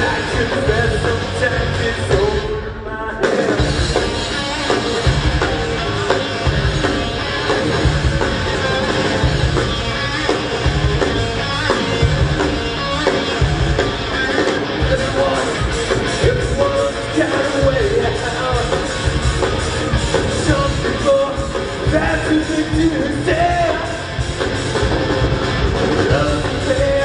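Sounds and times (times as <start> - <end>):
distorted electric guitars: 0.0 - 27.0
drum kit: 0.0 - 27.0
rock band playing live: 0.0 - 27.0.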